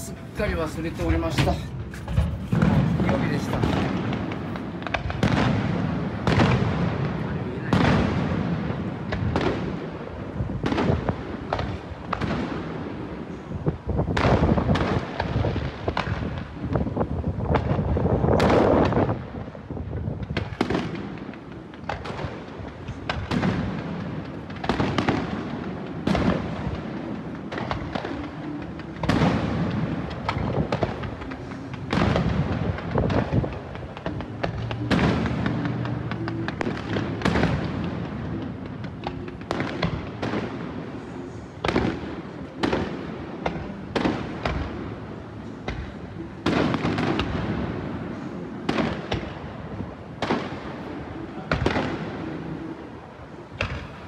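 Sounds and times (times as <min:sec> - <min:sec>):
fireworks bursting with echo: 0:00.0 - 0:54.0
fireworks crackling: 0:00.0 - 0:54.0.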